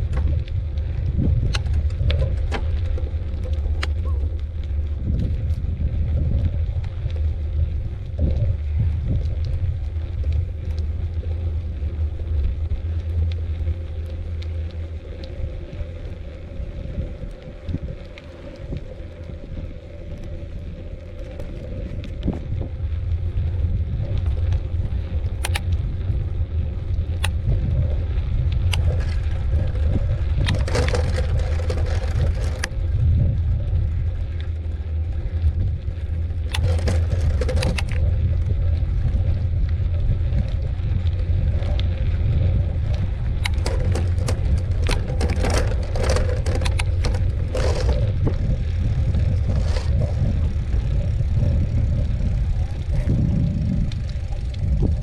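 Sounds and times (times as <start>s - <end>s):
bike clicks and rattles: 0.0s - 55.0s
wind and tyre rumble: 0.0s - 55.0s.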